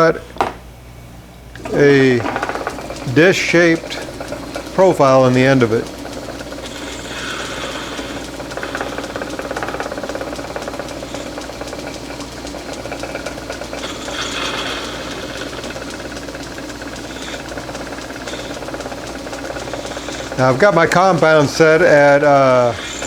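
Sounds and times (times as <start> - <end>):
cutting tool hiss: 1.6 - 23.0
metal lathe clattering: 1.6 - 23.0.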